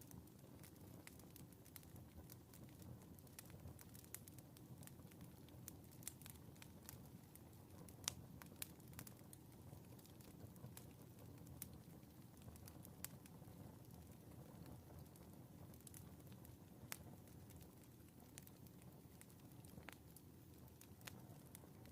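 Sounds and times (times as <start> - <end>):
fireplace fire crackling: 0.0 - 21.9.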